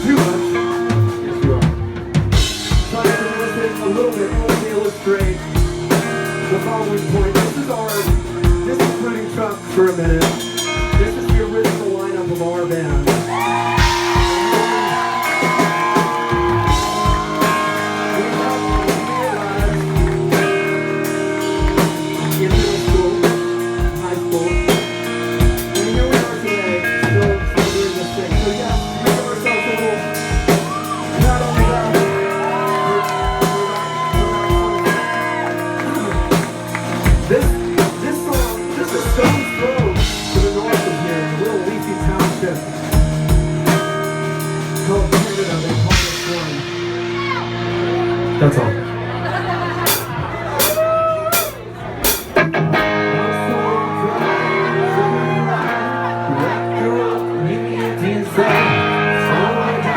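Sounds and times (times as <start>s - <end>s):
drum kit steady beat: 0.0s - 48.2s, 49.0s - 52.6s
rock band playing live: 0.0s - 59.9s.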